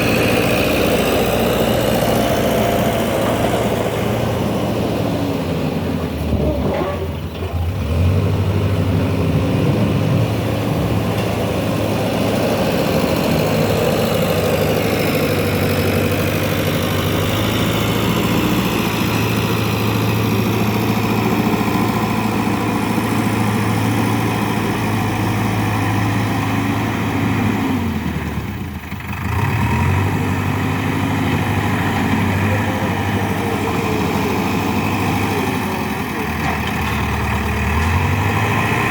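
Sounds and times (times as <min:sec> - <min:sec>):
backhoe diesel engine working: 0:00.0 - 0:38.9.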